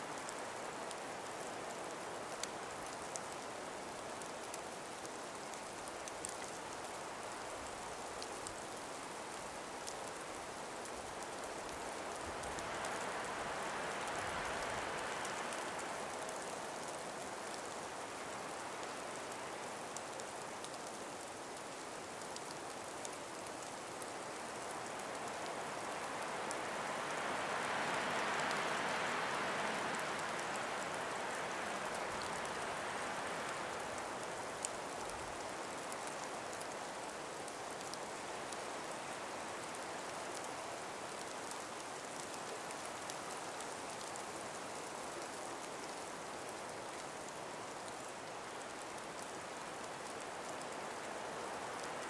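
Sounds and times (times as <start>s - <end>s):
light breeze through forest: 0.0s - 52.0s
faint scattered ticks: 0.1s - 52.0s.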